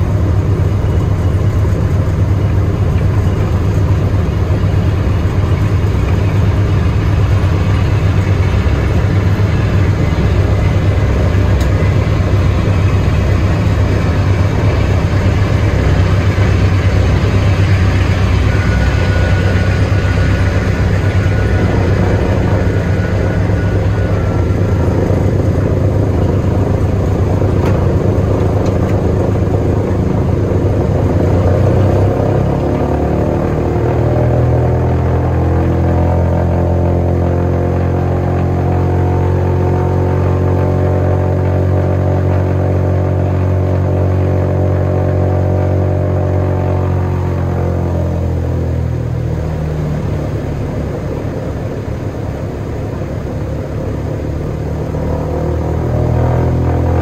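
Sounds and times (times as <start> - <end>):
radial aircraft engines droning: 0.0 - 57.0.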